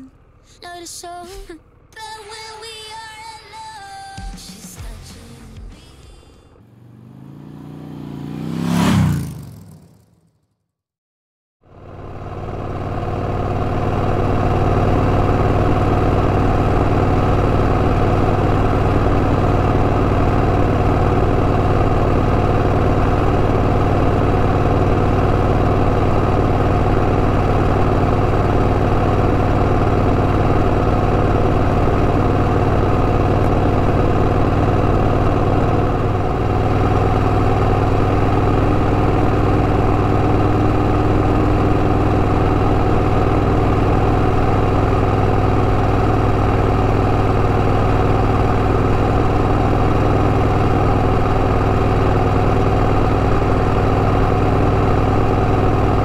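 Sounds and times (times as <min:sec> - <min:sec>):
motorcycle engine running: 0:03.9 - 0:10.6, 0:11.6 - 0:56.0.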